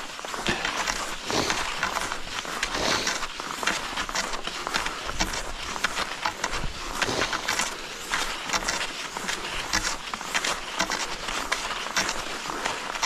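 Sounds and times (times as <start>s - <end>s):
ski poles planting in snow: 0.0s - 13.0s
skis swishing on snow: 0.0s - 13.0s.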